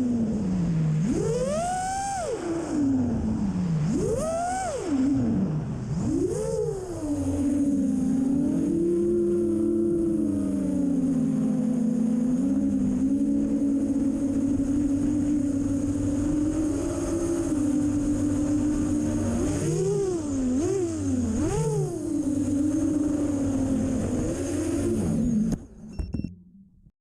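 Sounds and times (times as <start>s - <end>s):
drone motors whining: 0.0s - 26.7s.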